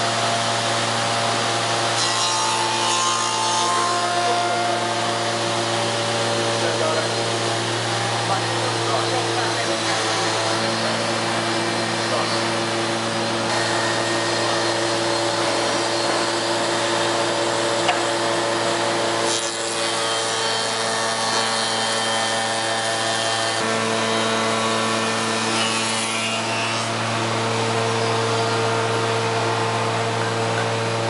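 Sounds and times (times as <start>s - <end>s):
cutters machining timber: 0.0s - 31.0s.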